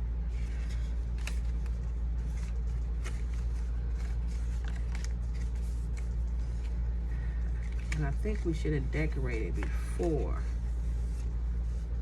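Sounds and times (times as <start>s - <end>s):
low electrical hum: 0.0s - 12.0s
paper handling: 0.2s - 12.0s.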